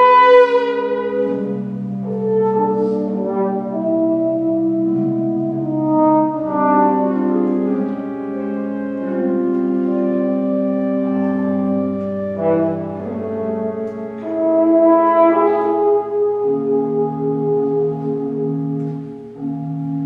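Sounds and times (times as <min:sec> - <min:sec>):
french horn notes: 0:00.0 - 0:20.0
organ chords: 0:00.0 - 0:20.0.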